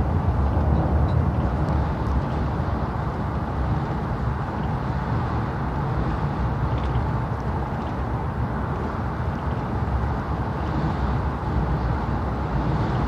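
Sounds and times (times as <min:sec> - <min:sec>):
train rumbling at speed: 0:00.0 - 0:13.0.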